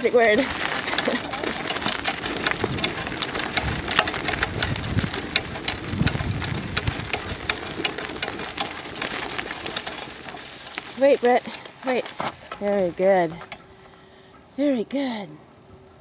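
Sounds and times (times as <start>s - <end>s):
cart wheels and frame rattling: 0.0s - 14.1s.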